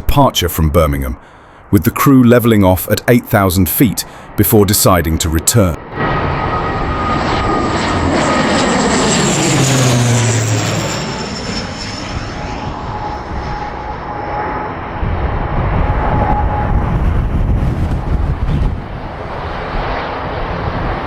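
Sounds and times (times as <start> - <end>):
turboprop airliner drone: 0.0 - 21.0.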